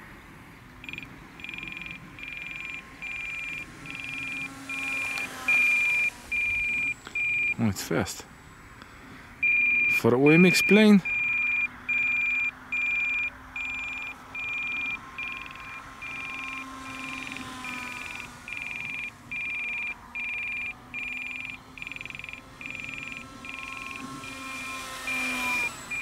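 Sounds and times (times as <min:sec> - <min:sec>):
faint electric motor whine: 0:00.0 - 0:26.0
high-pitched electronic beeps: 0:00.8 - 0:07.6, 0:09.4 - 0:26.0.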